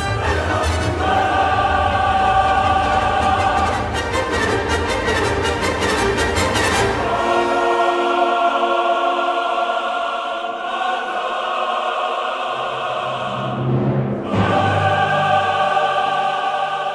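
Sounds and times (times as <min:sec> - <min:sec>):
film score held chords: 0:00.0 - 0:16.9.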